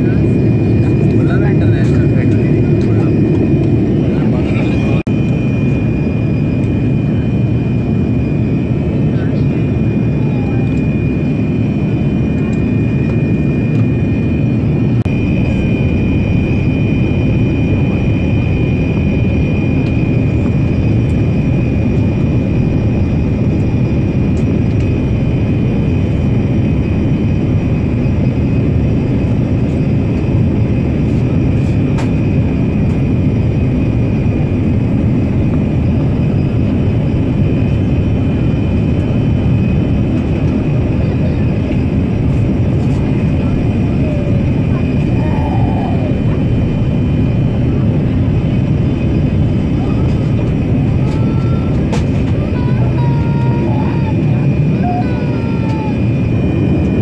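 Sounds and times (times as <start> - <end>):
jet engine and airflow roar: 0.0 - 57.0.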